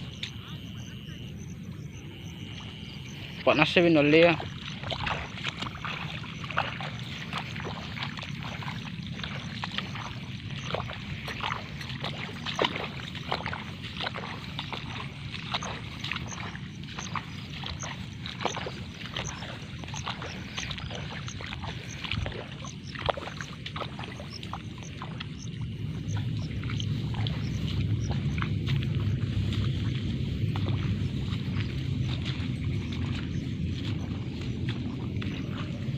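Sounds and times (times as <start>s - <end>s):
steady low rumble: 0.0s - 35.9s
water sloshing and splashing: 0.0s - 35.9s.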